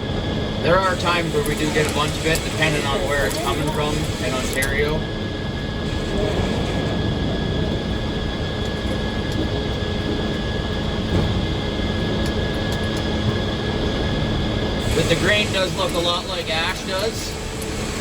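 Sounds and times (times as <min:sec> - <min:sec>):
circular saw droning and whining: 0:00.0 - 0:18.0.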